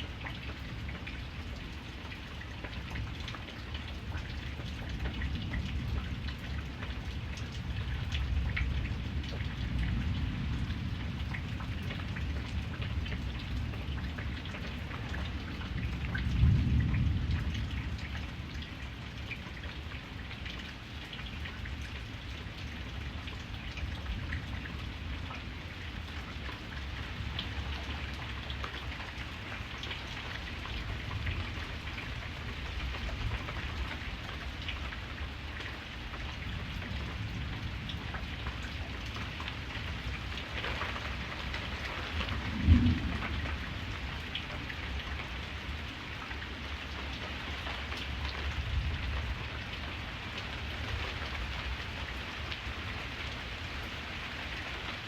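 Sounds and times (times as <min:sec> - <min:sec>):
raindrop ticks: 0:00.0 - 0:52.6
steady rain falling: 0:00.0 - 0:55.0.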